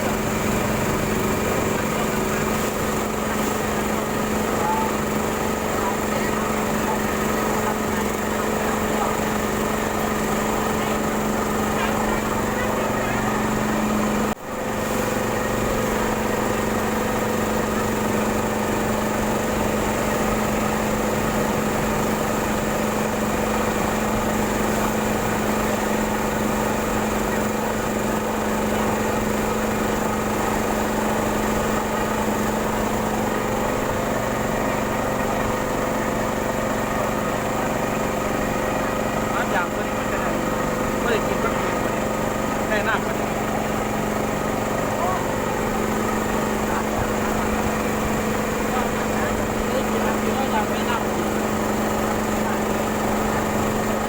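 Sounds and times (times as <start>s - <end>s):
small boat motor running: 0.0s - 54.0s.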